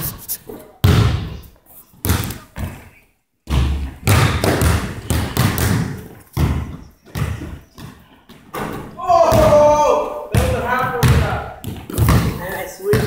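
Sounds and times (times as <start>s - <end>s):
basketball bouncing on wooden floor: 0.8s - 1.4s, 2.0s - 2.8s, 3.4s - 13.0s.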